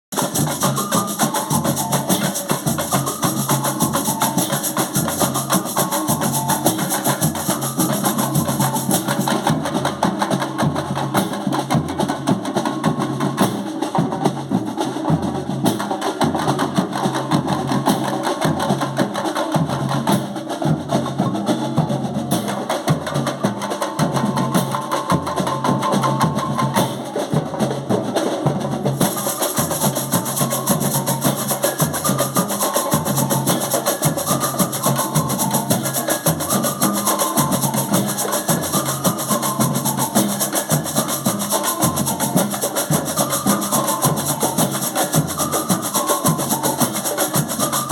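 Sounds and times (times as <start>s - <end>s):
samba drum section playing: 0.1s - 47.9s.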